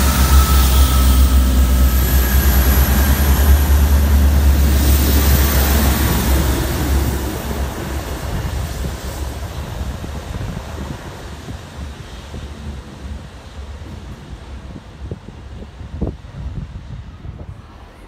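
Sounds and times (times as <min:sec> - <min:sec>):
train rumbling through station: 0:00.0 - 0:18.0.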